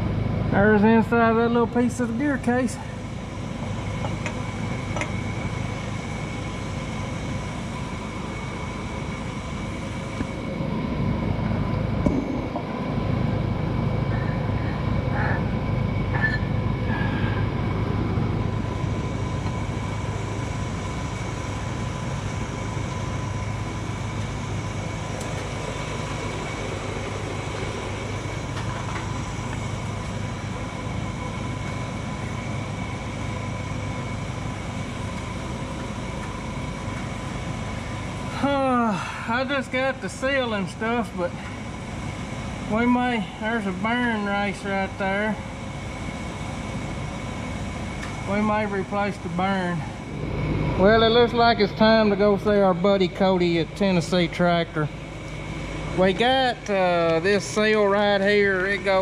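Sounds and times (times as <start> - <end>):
faint high whine: 0.0 - 59.0
low mechanical rumble: 0.0 - 59.0.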